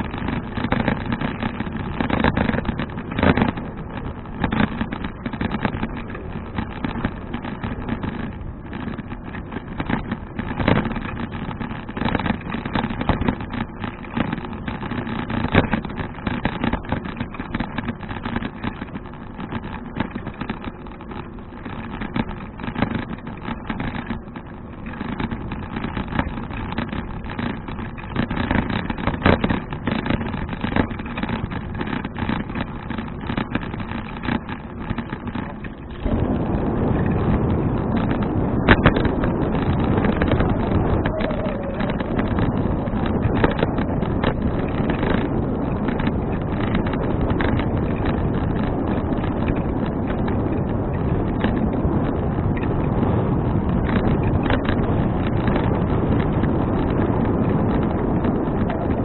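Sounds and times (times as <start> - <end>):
bicycle road and rattle noise: 0.0 - 59.0
crackles: 0.0 - 59.0
wind buffeting microphone: 0.0 - 59.0.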